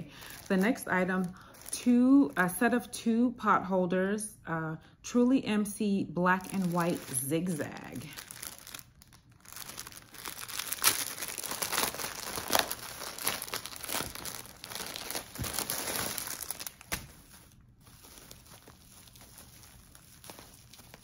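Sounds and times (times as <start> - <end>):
packaging crinkling and rustling: 0.0 - 2.4, 6.4 - 21.0.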